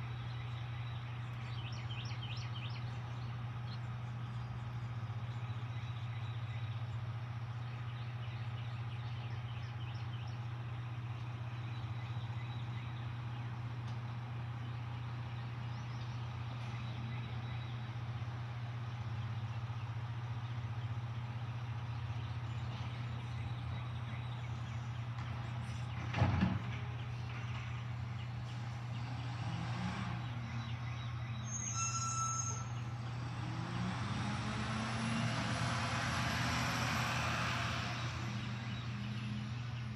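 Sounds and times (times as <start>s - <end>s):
distant diesel truck engine: 0.0s - 39.9s.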